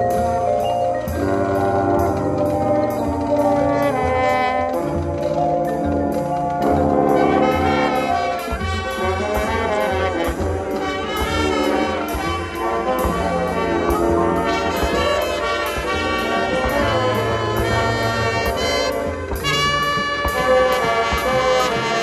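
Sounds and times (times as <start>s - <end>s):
marching band brass: 0.0s - 22.0s
percussion beat: 0.0s - 22.0s.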